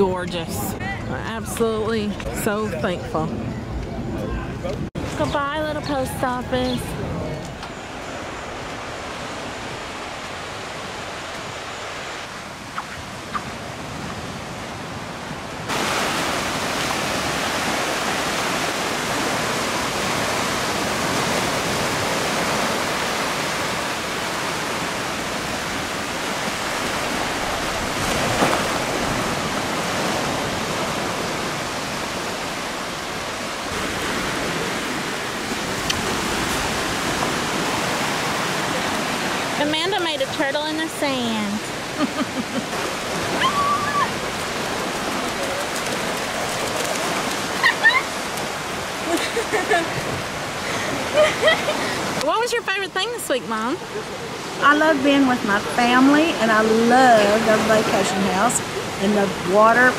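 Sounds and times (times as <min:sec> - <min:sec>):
waves breaking on beach: 0:05.0 - 0:59.9.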